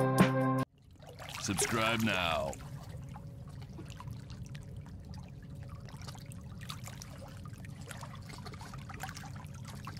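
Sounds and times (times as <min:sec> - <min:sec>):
water trickling: 0:00.7 - 0:09.9.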